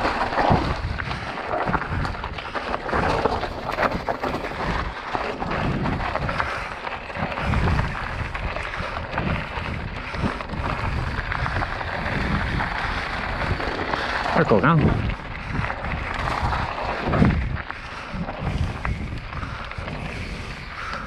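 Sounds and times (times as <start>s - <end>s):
bike rattling over stones: 0.0s - 21.0s
bike tyre and wind rush: 0.0s - 21.0s.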